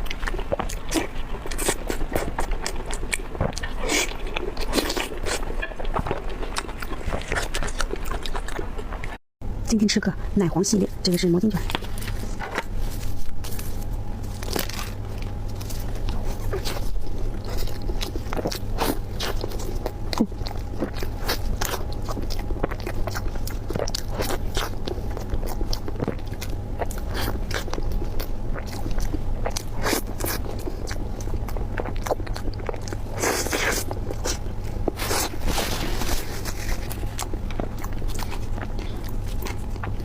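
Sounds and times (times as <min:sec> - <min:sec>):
crunchy biting and chewing: 0:00.0 - 0:09.2, 0:11.5 - 0:40.0
steady low hum: 0:00.0 - 0:40.0.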